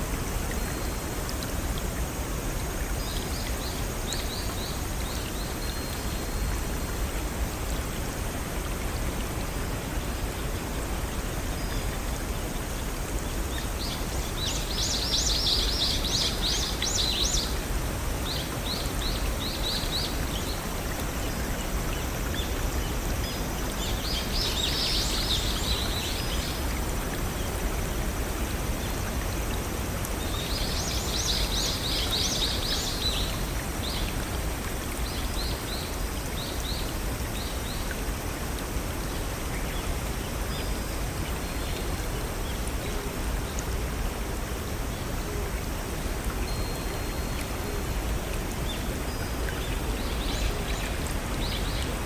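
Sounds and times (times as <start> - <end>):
small stream rushing: 0.0 - 52.0.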